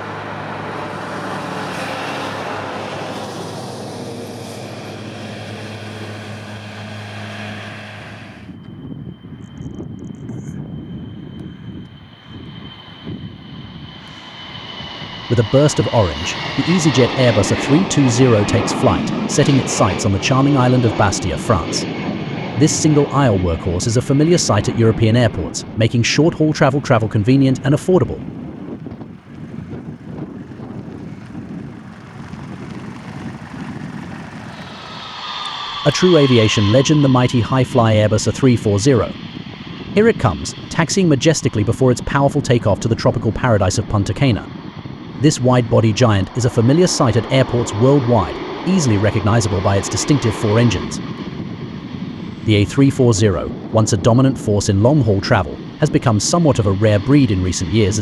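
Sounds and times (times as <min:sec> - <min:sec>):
high-pitched engine whine: 0:00.0 - 0:58.0
jet engine noise: 0:00.0 - 0:58.0
low rumble: 0:00.0 - 0:58.0.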